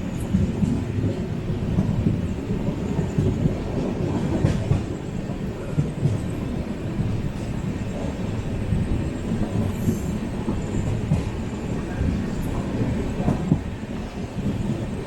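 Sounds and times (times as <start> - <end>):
train knocks and clatter: 0.0 - 15.0
train wheels rumbling on rails: 0.0 - 15.0.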